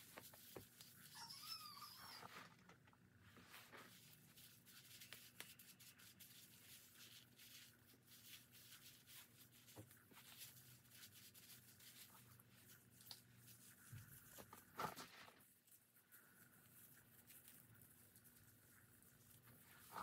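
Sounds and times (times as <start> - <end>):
gloved hands rubbing hair: 0.0 - 2.2, 3.3 - 20.0
faint steady hum: 0.0 - 20.0.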